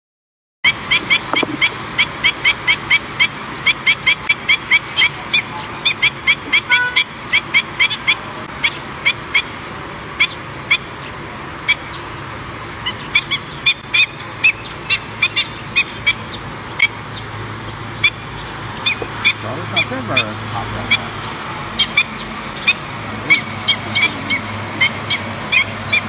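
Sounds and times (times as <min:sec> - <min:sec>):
bird yelping calls: 0:00.7 - 0:12.2, 0:12.8 - 0:26.0.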